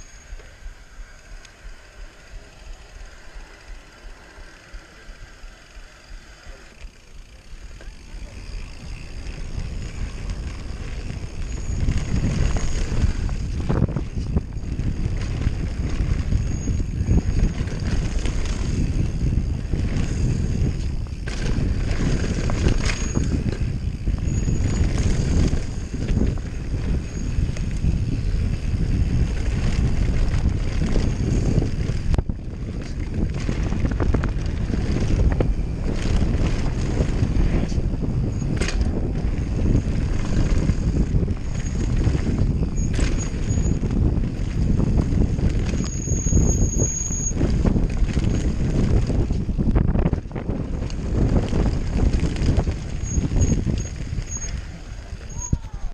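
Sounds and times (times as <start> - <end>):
tyres rumbling over dirt: 1.7 - 55.9
bike knocking and clattering: 6.7 - 55.9
wind on microphone: 7.6 - 55.9.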